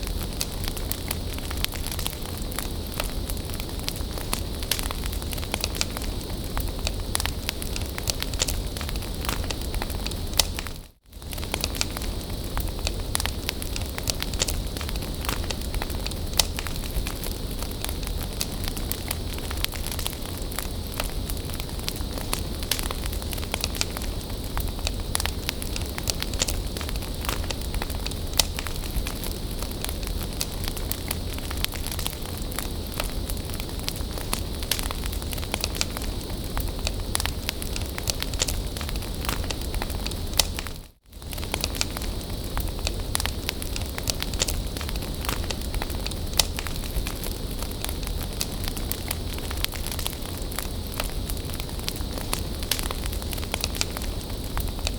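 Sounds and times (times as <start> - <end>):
bonfire crackling and popping: 0.0 - 54.9.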